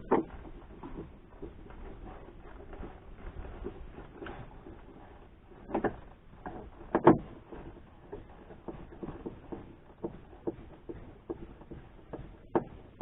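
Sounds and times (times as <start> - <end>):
trim knocking: 0.0 - 13.0.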